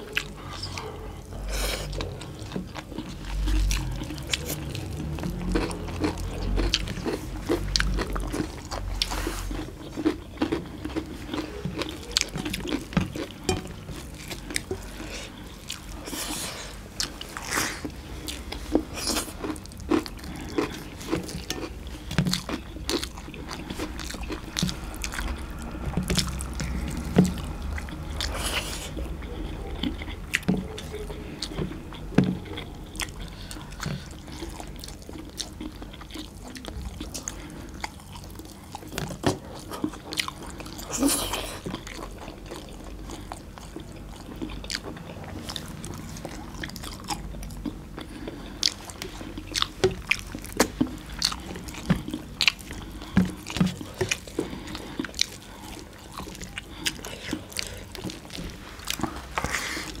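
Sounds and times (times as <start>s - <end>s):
chewing and wet mouth sounds: 0.0s - 60.0s.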